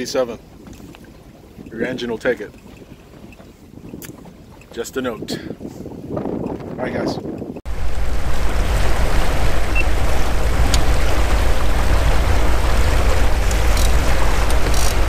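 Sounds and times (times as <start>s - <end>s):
water rushing past hull: 0.0s - 6.3s, 7.7s - 15.0s
boat engine rumble: 0.0s - 15.0s
wind buffeting microphone: 0.0s - 15.0s.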